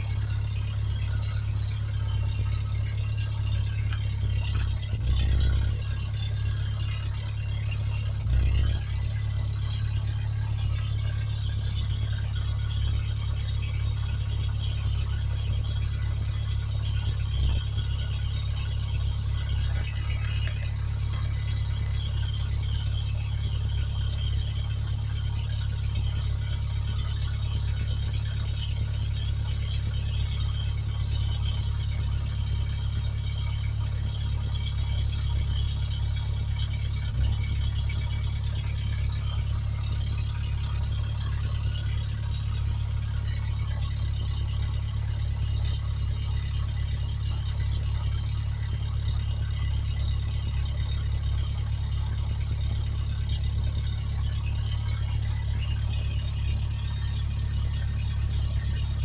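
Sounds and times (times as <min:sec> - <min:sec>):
pickup engine idling: 0:00.0 - 0:59.0.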